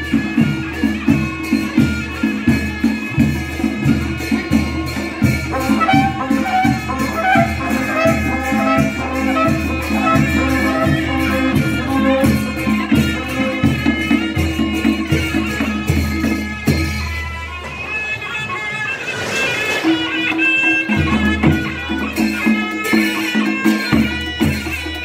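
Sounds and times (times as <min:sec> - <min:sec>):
regular drumbeat: 0:00.0 - 0:17.7, 0:19.9 - 0:25.0
reedy wind melody: 0:00.0 - 0:23.0.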